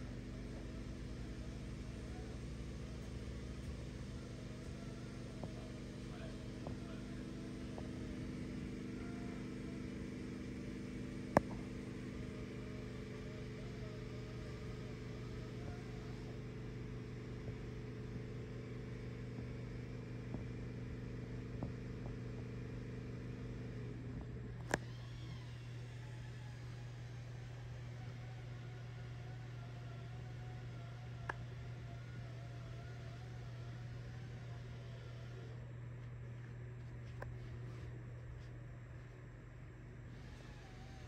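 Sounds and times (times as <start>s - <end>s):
wood lathe motor hum: 0.0s - 35.7s, 40.1s - 41.0s.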